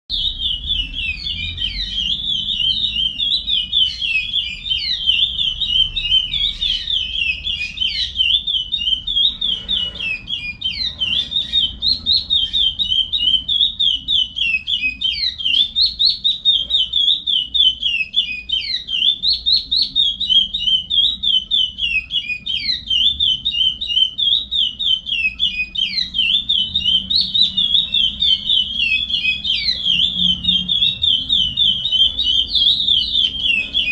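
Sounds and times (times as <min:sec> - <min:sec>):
finch singing high whistled notes: 0:00.1 - 0:33.9.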